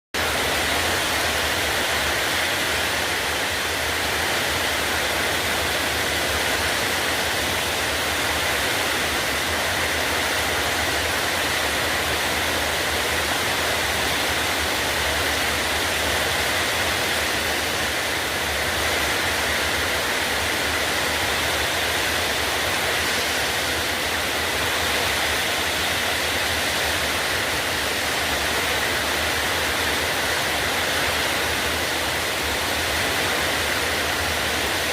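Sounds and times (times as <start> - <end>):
heavy rain downpour: 0.2 - 34.9.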